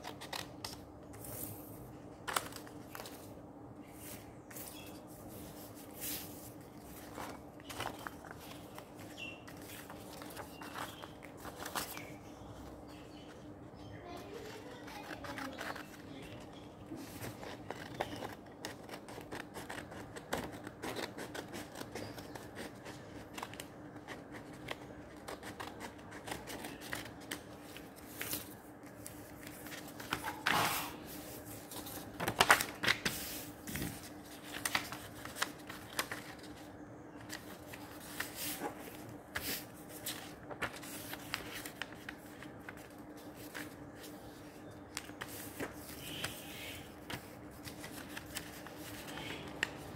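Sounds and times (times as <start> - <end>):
paper rustling and crinkling: 0.0 - 12.3, 14.0 - 49.9
faint steady hum: 0.0 - 49.9.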